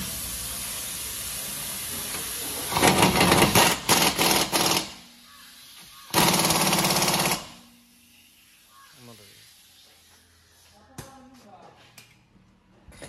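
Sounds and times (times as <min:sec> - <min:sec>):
air hiss: 0:00.0 - 0:10.8.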